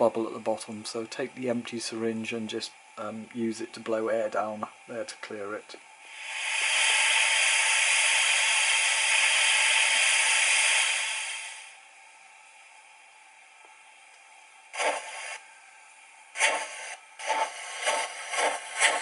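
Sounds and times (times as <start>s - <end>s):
steam hiss through small speaker: 0.0s - 11.8s, 14.7s - 15.4s, 16.3s - 19.0s.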